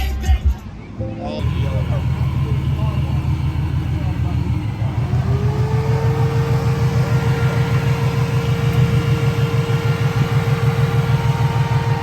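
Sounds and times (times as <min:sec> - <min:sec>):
car engine idling: 0:01.4 - 0:12.0
steady mid-pitched tone: 0:01.4 - 0:12.0.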